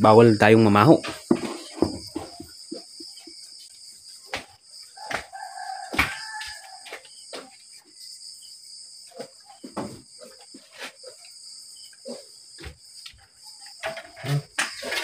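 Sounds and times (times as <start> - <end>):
night insects chirping: 0.0 - 15.0.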